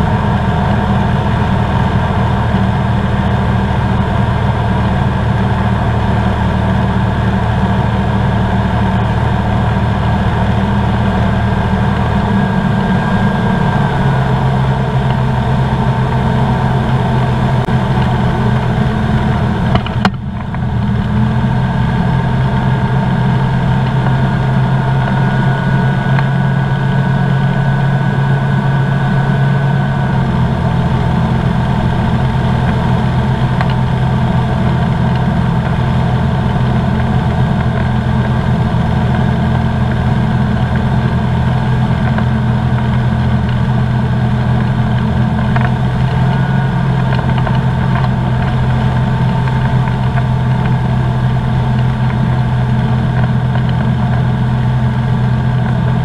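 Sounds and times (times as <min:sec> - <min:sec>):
ultralight engine and propeller drone: 0:00.0 - 0:56.0.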